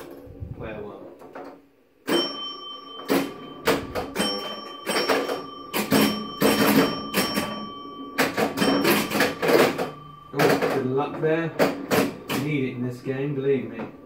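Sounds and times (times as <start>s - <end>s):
pinball machine mechanical clacks: 1.2s - 14.0s
high ringing tone: 2.0s - 14.0s.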